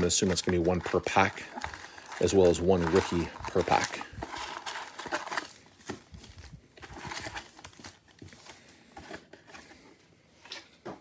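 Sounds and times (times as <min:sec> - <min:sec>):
card packs rustling: 0:00.0 - 0:10.7.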